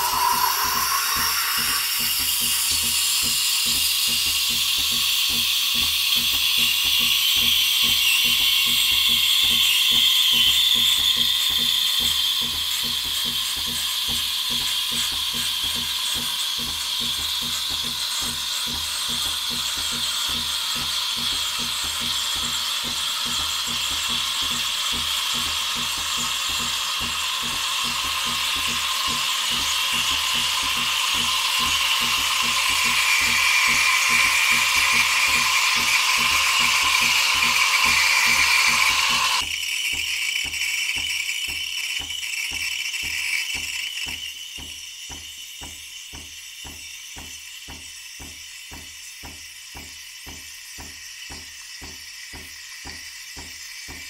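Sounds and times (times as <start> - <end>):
espresso machine steam hissing: 0.0 - 54.0.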